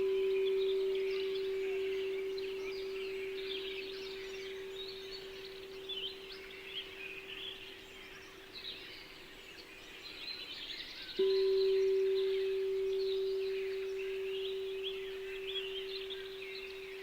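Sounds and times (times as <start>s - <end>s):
singing bowl tone: 0.0s - 9.3s, 11.2s - 17.0s
small birds chirping: 0.0s - 17.0s.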